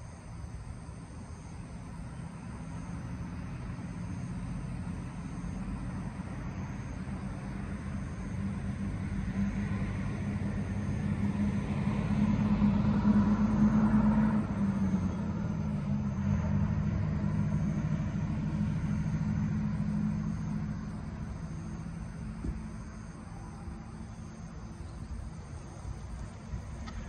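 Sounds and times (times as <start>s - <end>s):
engine passing by: 1.4s - 27.0s.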